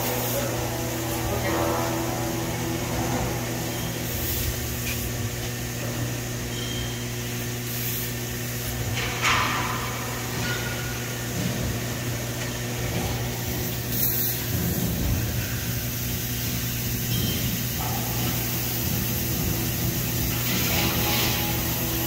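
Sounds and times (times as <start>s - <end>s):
laser cutter humming: 0.0s - 22.0s.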